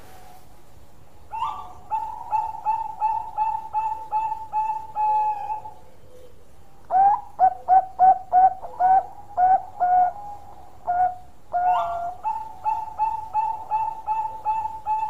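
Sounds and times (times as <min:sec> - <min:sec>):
dove cooing: 0:01.3 - 0:15.0.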